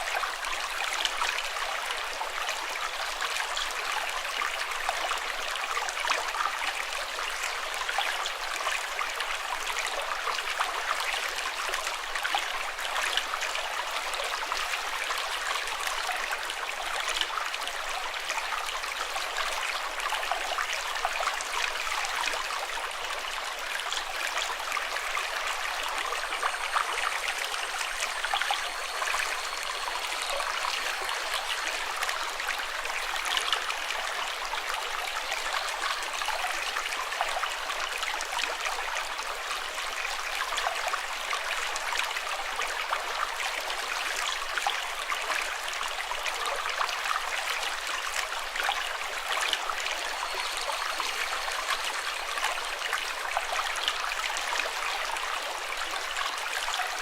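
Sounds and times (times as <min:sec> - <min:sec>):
flowing water trickling: 0:00.2 - 0:57.0.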